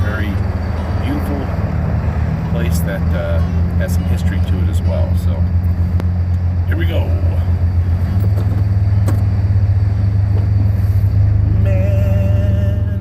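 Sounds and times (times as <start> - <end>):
truck engine droning: 0.0 - 13.0
wavering high tone: 0.0 - 13.0.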